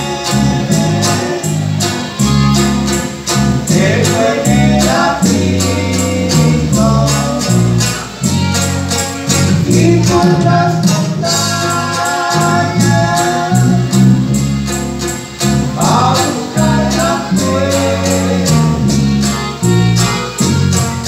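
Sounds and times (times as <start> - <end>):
accordion: 0.0 - 21.0
guitars playing: 0.0 - 21.0
percussion beat: 0.0 - 21.0.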